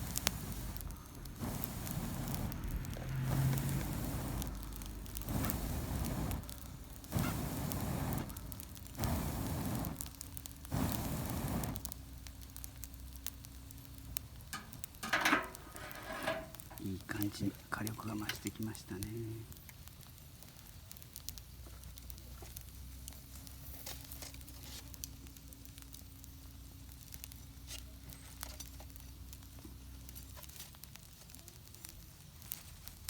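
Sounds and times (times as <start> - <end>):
campfire crackling and popping: 0.0 - 33.0
flames whooshing: 0.0 - 33.0.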